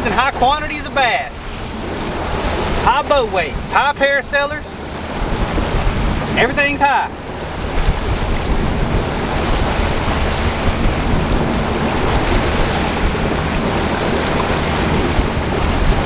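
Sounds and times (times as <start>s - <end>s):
outboard motor drone: 0.0s - 16.0s
water rushing along hull: 0.0s - 16.0s
wind buffeting microphone: 0.0s - 16.0s.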